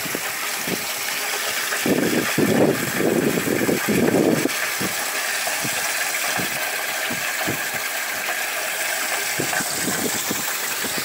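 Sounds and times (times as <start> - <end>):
water gurgling: 0.0 - 11.0
water splashing into drums: 0.0 - 11.0.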